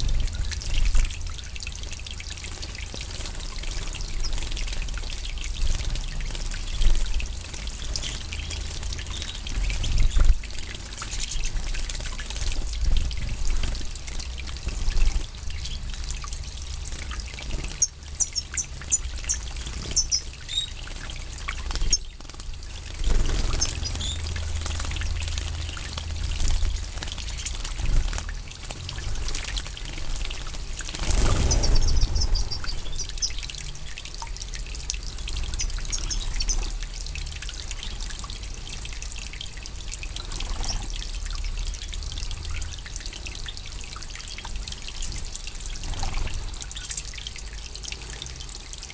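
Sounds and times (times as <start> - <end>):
birds splashing in water: 0.1 - 48.9.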